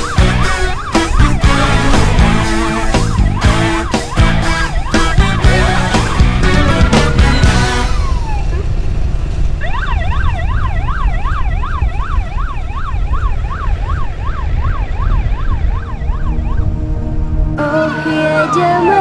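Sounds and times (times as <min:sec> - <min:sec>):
electronic siren yelping: 0:00.0 - 0:08.6, 0:09.6 - 0:16.8, 0:17.6 - 0:19.0
motorcycle road rumble: 0:00.0 - 0:19.0.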